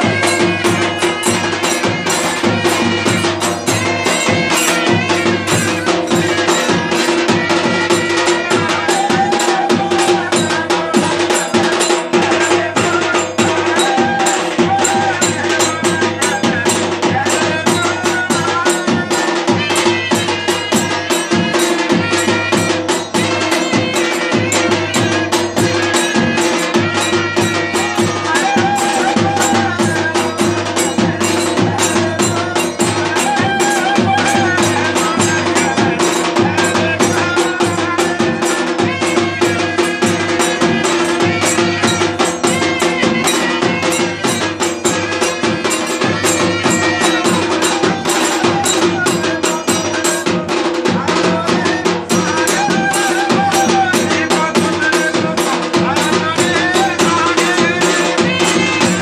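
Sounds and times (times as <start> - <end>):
wind instrument wavering melody: 0.0 - 50.5, 51.5 - 59.0
barrel drum beating fast rhythm: 0.0 - 59.0.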